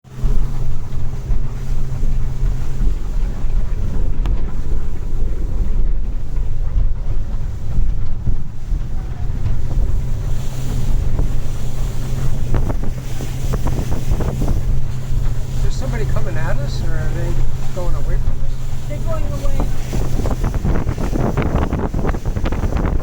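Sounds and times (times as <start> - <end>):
motorboat engine drone: 0.0 - 23.0
rushing water: 0.0 - 23.0
wind buffeting microphone: 0.0 - 23.0.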